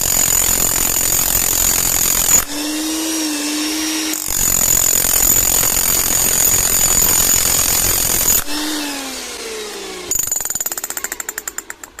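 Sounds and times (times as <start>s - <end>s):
rotary hammer running: 0.0s - 12.0s.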